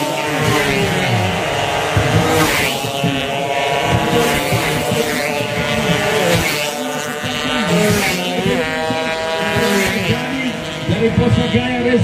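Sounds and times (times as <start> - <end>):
motorcycles revving at high pitch: 0.0 - 12.0.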